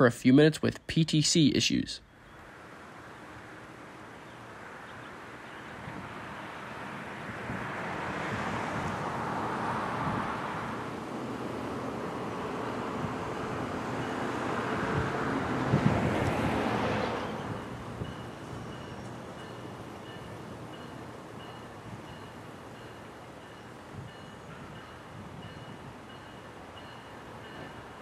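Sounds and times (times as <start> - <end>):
passenger train passing: 0.0 - 28.0.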